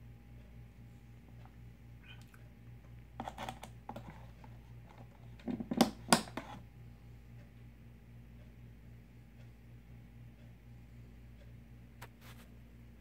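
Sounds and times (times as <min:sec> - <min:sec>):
faint steady low hum: 0:00.0 - 0:13.0.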